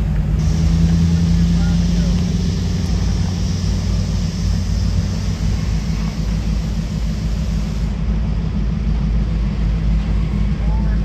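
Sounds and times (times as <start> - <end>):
diesel locomotive engines droning: 0.0 - 11.0
train rushing noise: 0.0 - 11.0.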